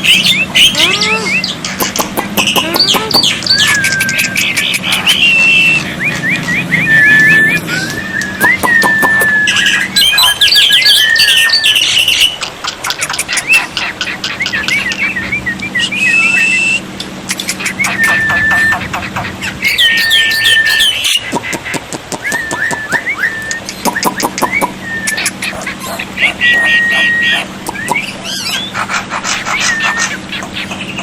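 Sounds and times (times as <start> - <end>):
bird singing: 0.0 - 31.0.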